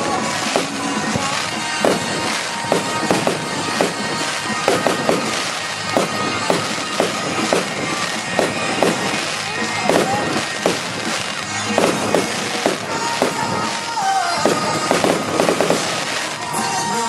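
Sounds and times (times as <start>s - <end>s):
firework shells banging: 0.0s - 17.0s
fireworks crackling: 0.0s - 17.0s.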